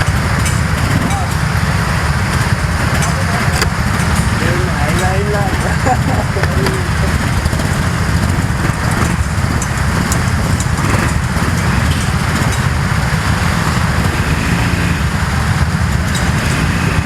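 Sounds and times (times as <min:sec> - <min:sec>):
go-kart engines droning: 0:00.0 - 0:17.0.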